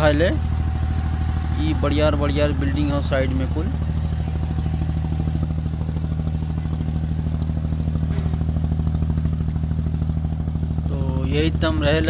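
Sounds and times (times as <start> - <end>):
boat diesel engine throbbing: 0.0 - 12.0.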